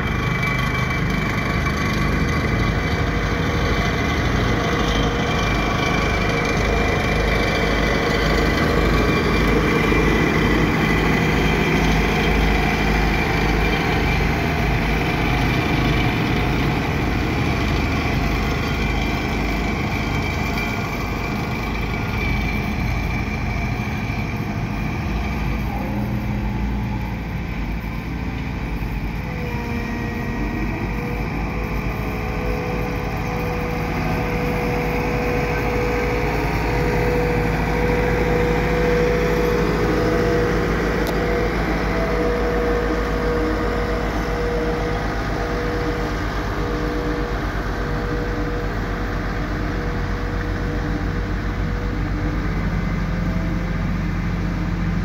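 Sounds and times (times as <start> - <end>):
road roller diesel engine: 0.0 - 55.0.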